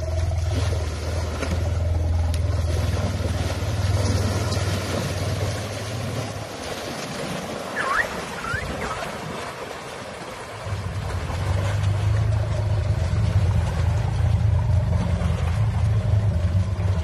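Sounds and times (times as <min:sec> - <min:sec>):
steady low hum: 0:00.0 - 0:07.7, 0:08.6 - 0:17.0
water splashing and churning: 0:00.0 - 0:17.0.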